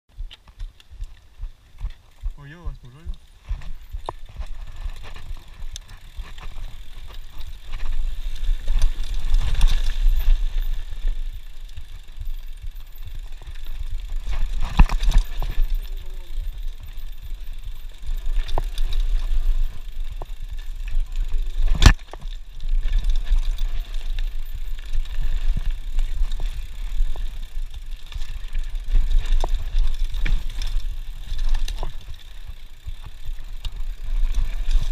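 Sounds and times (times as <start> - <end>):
bike rattling and knocking: 0.1 - 34.9
wind rumbling on microphone: 0.1 - 34.9.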